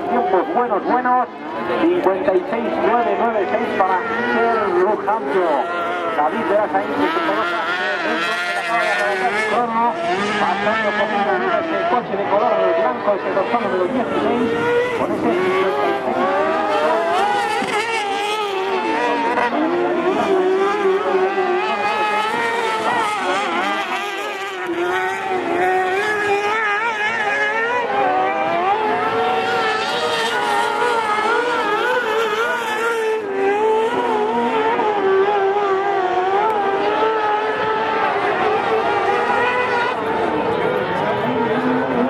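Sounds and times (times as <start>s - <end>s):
motorcycle engine revving: 1.7s - 42.0s.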